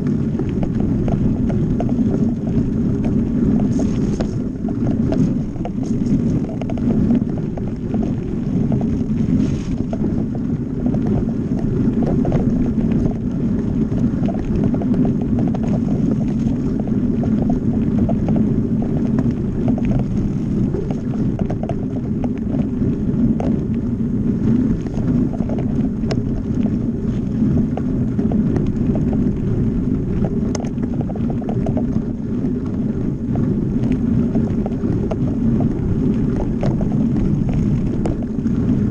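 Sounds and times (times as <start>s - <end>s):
bike clicks and rattles: 0.0s - 38.9s
bike tyre and frame rumble: 0.0s - 38.9s
wind on microphone: 0.0s - 38.9s.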